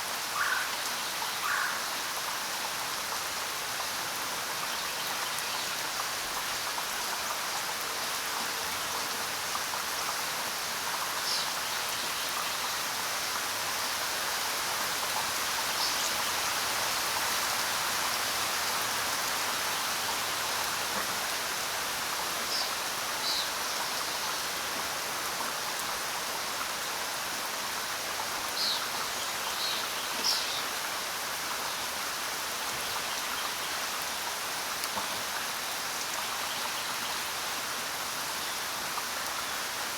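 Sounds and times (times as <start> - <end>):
rain falling on ground: 0.0 - 39.9.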